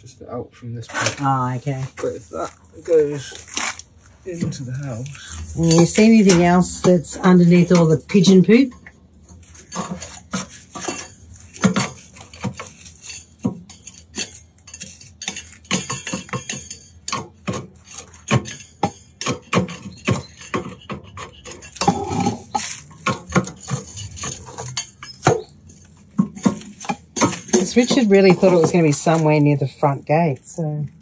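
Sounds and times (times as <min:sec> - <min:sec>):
clinks and knocks: 0:04.3 - 0:31.0.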